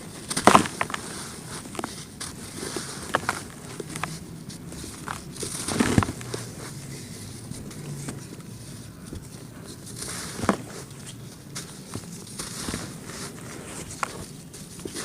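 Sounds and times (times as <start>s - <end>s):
dry dirt crumbling: 0.0s - 15.0s.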